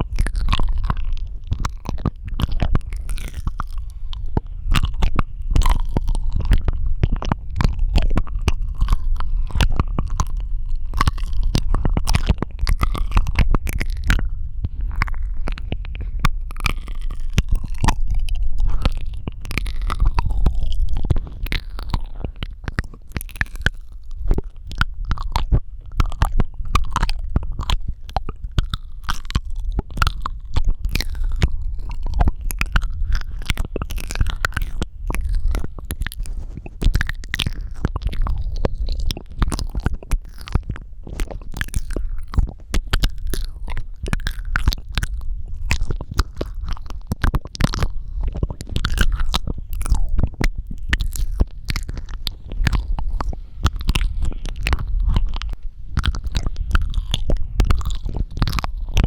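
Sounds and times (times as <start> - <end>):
deep low rumble: 0.0 - 59.0
wet mouth clicks and smacks: 0.0 - 59.0.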